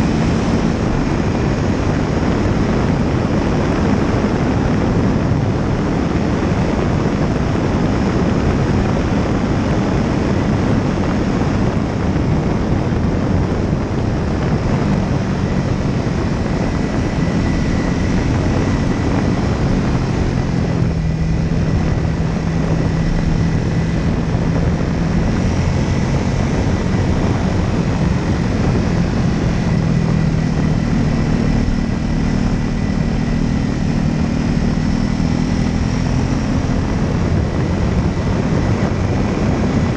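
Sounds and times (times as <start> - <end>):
small aircraft engine and propeller: 0.0 - 39.9
wind over microphone: 0.0 - 39.9.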